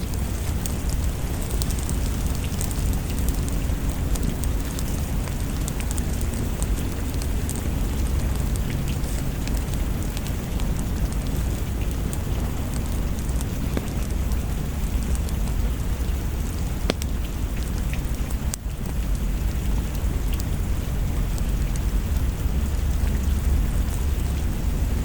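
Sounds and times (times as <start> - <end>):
low rumble: 0.0 - 25.0
steady rain: 0.0 - 25.0
wood fire crackling: 0.0 - 25.0.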